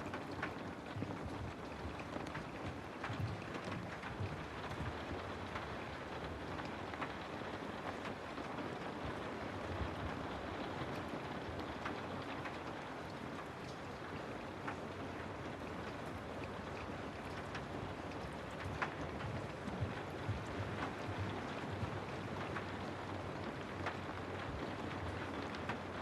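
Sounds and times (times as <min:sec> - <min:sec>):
raindrops tapping: 0:00.0 - 0:26.0
steady rain hiss: 0:00.0 - 0:26.0.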